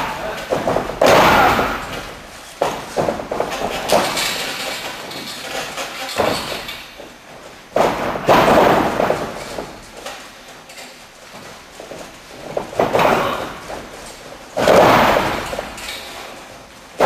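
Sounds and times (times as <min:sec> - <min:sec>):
bodies thudding on ring floor: 0:00.0 - 0:10.4, 0:11.3 - 0:17.0.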